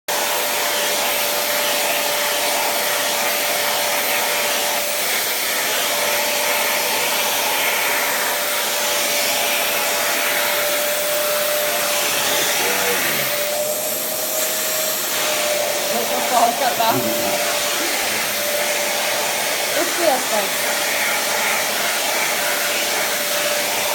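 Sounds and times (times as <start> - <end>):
vacuum cleaner running: 0.1 - 23.9.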